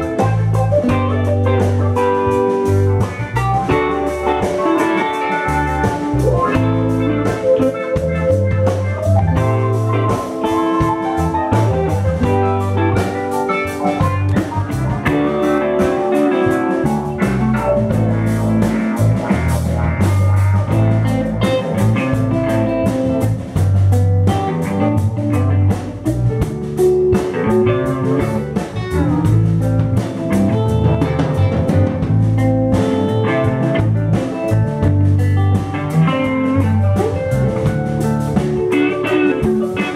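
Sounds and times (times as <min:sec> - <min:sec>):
bass line: 0:00.0 - 0:39.9
drums: 0:00.0 - 0:39.9
electric guitars: 0:00.0 - 0:39.9
keyboard: 0:00.0 - 0:39.9.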